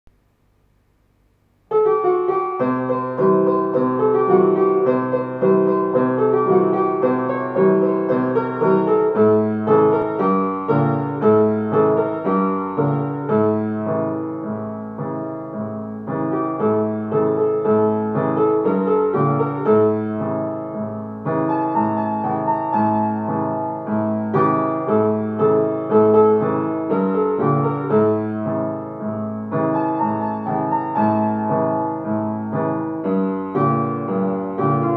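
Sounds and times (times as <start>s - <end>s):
solo piano playing: 1.3s - 34.9s.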